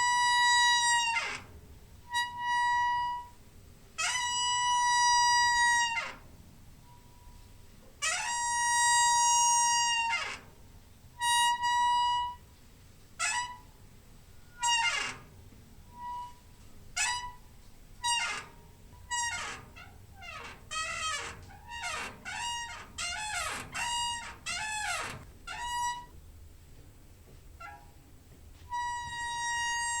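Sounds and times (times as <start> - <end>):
door hinge squeaking: 0.0 - 3.4, 4.0 - 6.3, 8.0 - 12.5, 13.2 - 13.8, 14.4 - 26.2, 27.6 - 28.0, 28.7 - 30.0.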